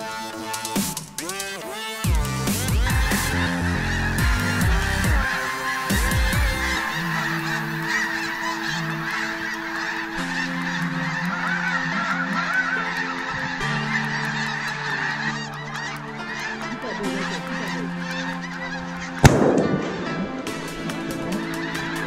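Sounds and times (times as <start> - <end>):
geese calling: 0.0 - 22.0.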